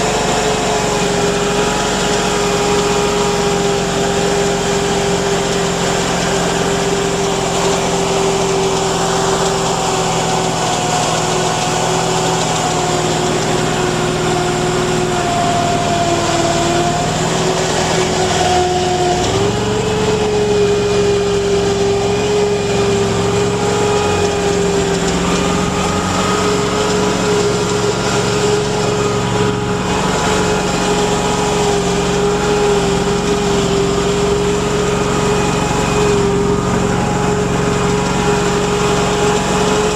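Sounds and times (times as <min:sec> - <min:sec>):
vehicle engine running under load: 0:00.0 - 0:39.9.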